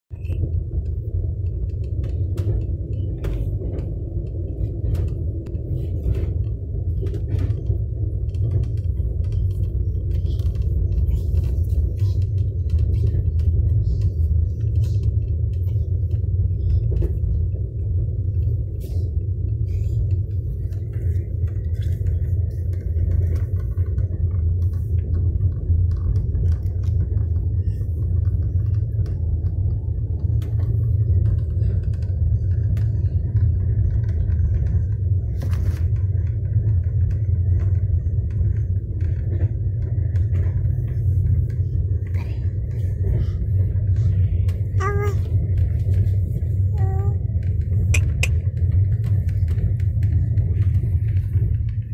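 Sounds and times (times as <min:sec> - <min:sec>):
train rumbling inside coach: 0:00.1 - 0:51.9.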